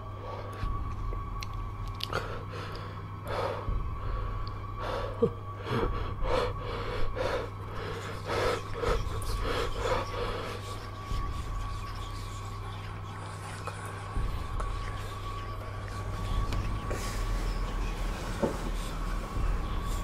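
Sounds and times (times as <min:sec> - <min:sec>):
steady low hum: 0:00.0 - 0:20.0
ragged gasping breaths: 0:02.0 - 0:20.0.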